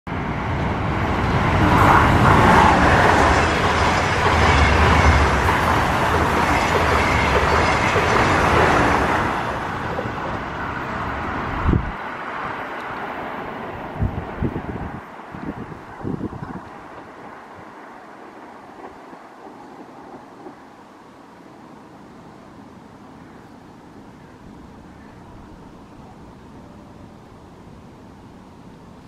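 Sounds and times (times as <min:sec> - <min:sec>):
train passing with wheel rush: 0:00.1 - 0:29.0.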